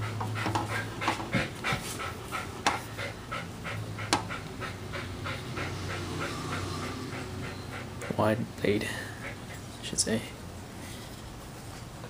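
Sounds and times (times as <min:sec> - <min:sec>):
dog panting: 0:00.0 - 0:09.8.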